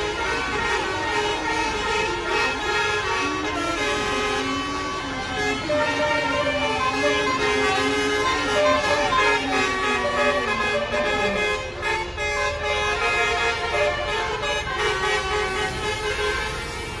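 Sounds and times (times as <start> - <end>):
bus engine rumble: 0.0 - 17.0
bus horn playing a tune: 0.0 - 17.0.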